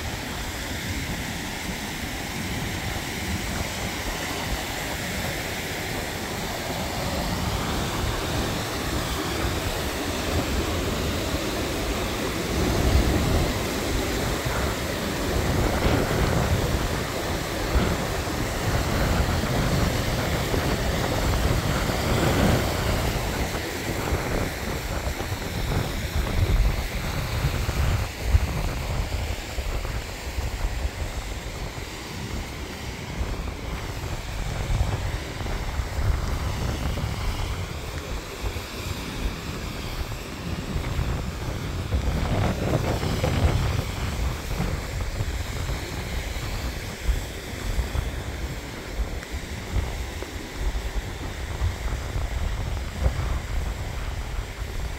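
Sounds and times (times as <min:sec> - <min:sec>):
stream rushing over boulders: 0:00.0 - 0:54.9
wind on microphone: 0:00.0 - 0:54.9.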